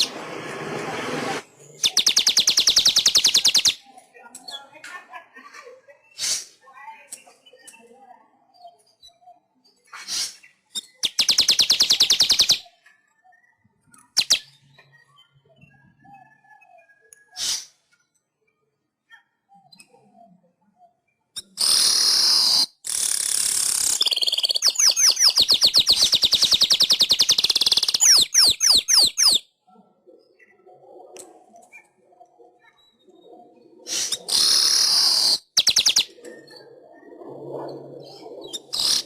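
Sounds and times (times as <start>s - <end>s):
weaver bird song: 1.4s - 4.8s, 6.0s - 18.8s, 19.5s - 39.0s.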